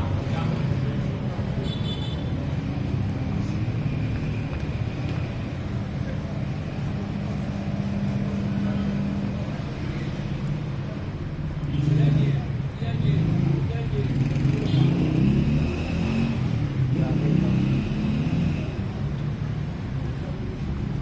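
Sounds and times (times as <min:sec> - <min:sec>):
motor traffic: 0:00.0 - 0:21.0
people's voices: 0:00.0 - 0:21.0.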